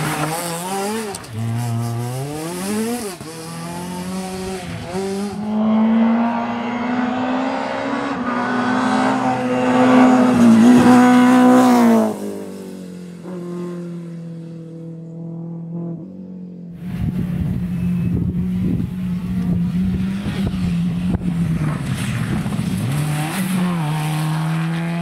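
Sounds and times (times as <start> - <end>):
rally car engine revving: 0.0 - 12.6, 16.7 - 25.0.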